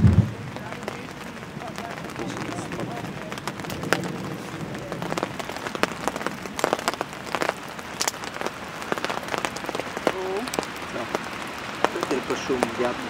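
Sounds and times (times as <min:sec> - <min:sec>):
light rain falling: 0:00.0 - 0:13.0
raindrop taps: 0:00.0 - 0:13.0.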